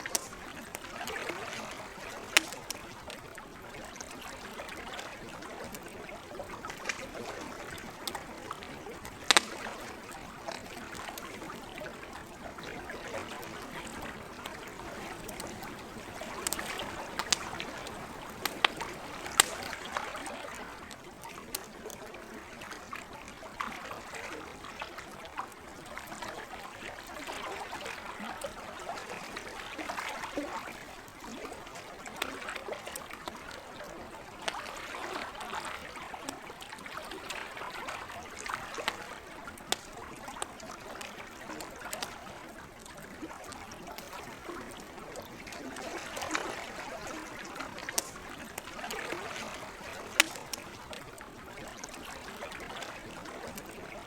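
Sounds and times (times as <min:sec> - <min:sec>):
campfire crackling: 0:00.0 - 0:54.0
water lapping: 0:00.0 - 0:54.0.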